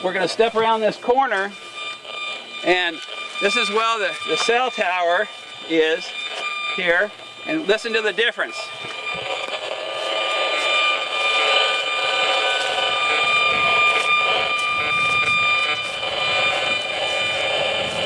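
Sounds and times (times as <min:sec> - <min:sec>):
meter loudspeaker buzzing: 0:00.0 - 0:18.0.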